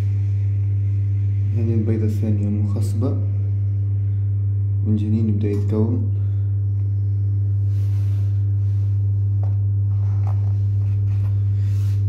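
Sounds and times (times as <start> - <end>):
incubator fan motor humming: 0.0 - 12.0.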